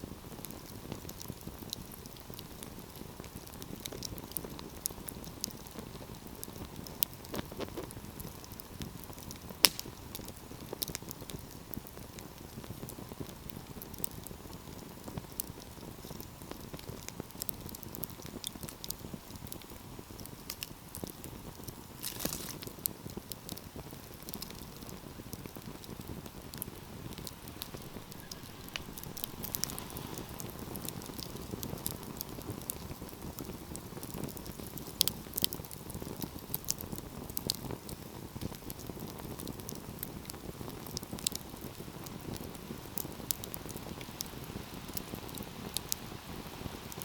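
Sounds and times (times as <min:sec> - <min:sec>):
fire crackles and pops: 0:00.0 - 0:47.0
low rush of flame: 0:00.0 - 0:47.0.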